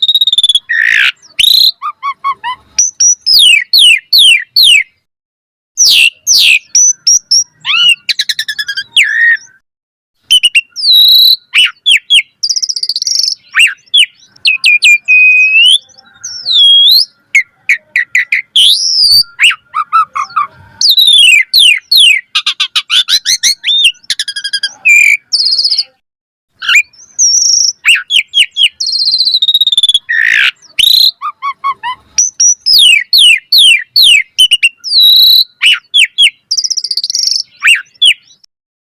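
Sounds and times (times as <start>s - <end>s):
starling singing: 0.0s - 5.1s, 5.8s - 9.6s, 10.2s - 26.0s, 26.6s - 38.5s.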